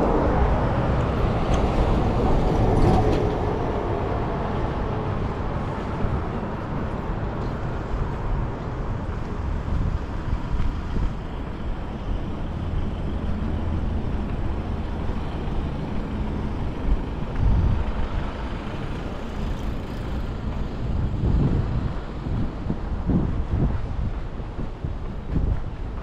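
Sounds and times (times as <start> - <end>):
road traffic passing: 0.0 - 26.0
tyre and road rumble: 0.0 - 26.0.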